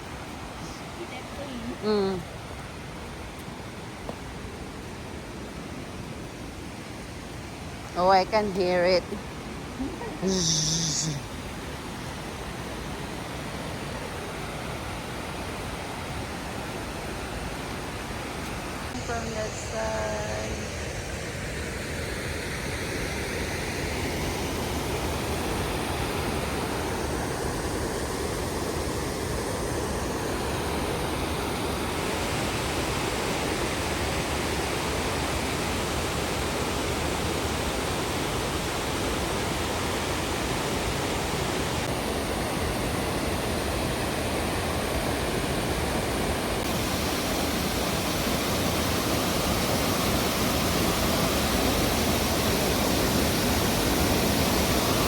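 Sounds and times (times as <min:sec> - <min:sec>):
waterfall rushing: 0:09.2 - 0:55.0.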